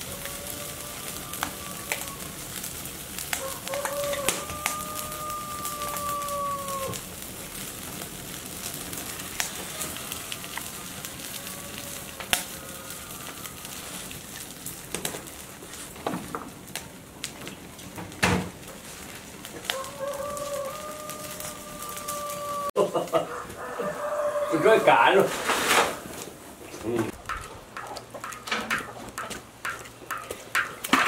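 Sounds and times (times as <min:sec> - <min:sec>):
wood fire crackling and popping: 0:00.0 - 0:24.2, 0:25.2 - 0:31.0
fire tongs stirring burning wood: 0:00.0 - 0:31.0.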